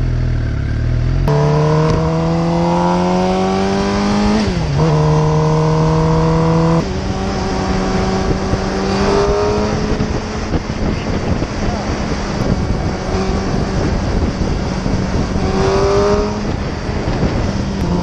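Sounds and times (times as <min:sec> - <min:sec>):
motorcycle engine accelerating: 0:00.0 - 0:18.0
wind noise on microphone: 0:01.3 - 0:18.0.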